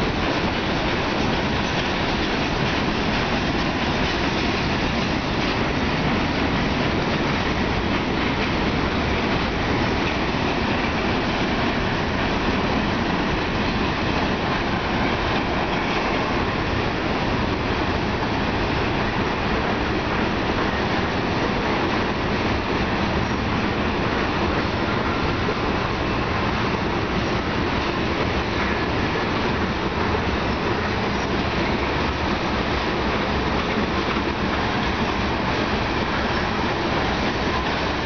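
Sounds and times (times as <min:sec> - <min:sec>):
freight train cars rolling past: 0:00.0 - 0:38.0.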